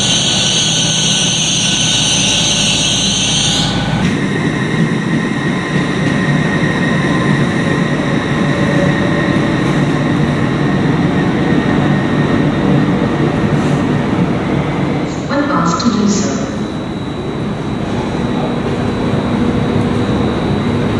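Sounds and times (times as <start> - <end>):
train rumbling: 0.0 - 20.9.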